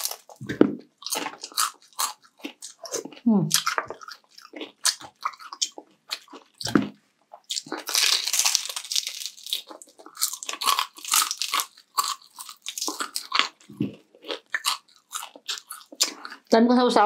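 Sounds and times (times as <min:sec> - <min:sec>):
crunching crispy fried pork: 0:00.0 - 0:00.4, 0:01.0 - 0:16.5.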